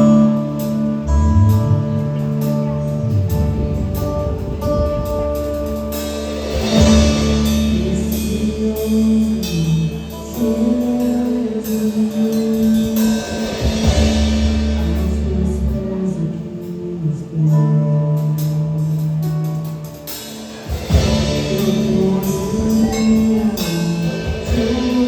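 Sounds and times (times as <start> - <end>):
drum kit and cymbals: 0.0 - 25.0
guitar: 0.0 - 25.0
live band playing: 0.0 - 25.0.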